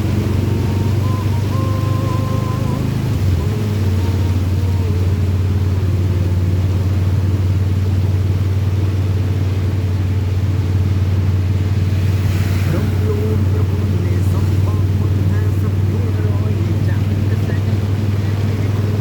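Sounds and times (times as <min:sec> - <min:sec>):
vehicle engine and road drone: 0:00.0 - 0:19.0.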